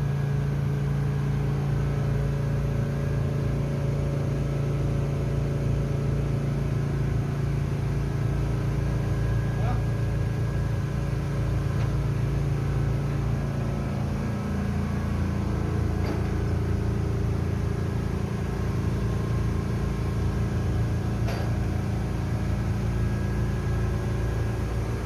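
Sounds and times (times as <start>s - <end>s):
ship diesel engine running: 0.0s - 25.0s.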